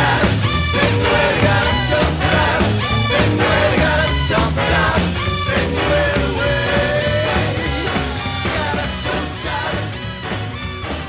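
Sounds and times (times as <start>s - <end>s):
loud music with steady beat: 0.0s - 11.0s.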